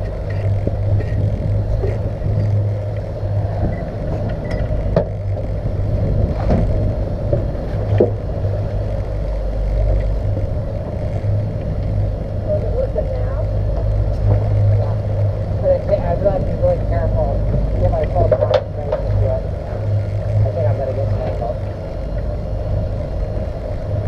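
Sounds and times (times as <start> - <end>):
outboard motors running: 0.0 - 24.0
wind noise: 0.0 - 24.0.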